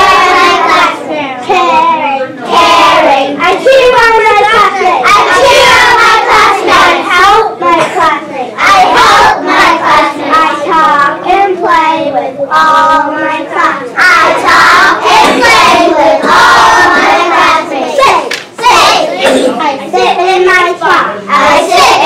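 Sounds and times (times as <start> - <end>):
child leading a chant: 0.0 - 22.0
children chanting together: 0.0 - 22.0.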